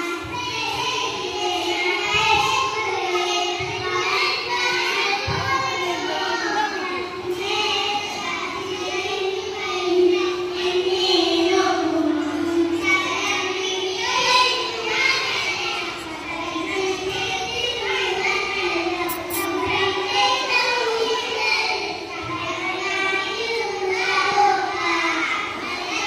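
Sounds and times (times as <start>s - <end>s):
child singing: 0.0s - 26.0s.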